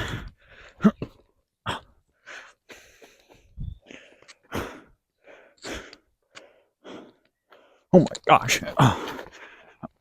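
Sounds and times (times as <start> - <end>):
man panting and gasping: 0.0 - 8.0, 8.6 - 10.0.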